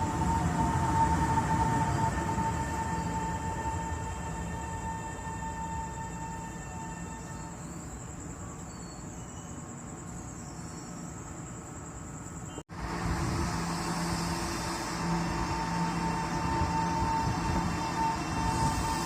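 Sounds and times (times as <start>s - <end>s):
train rumble with high whine: 0.0s - 19.0s.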